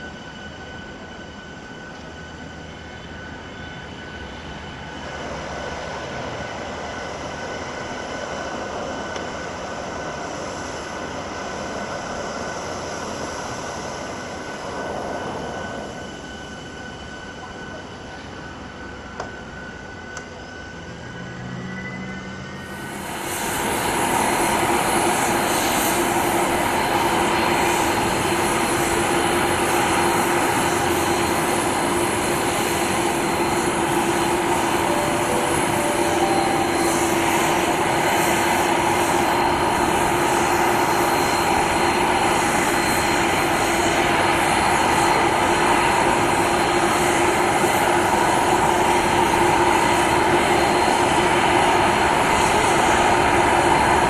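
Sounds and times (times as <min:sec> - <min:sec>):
jet engine whine: 0:00.0 - 0:54.0.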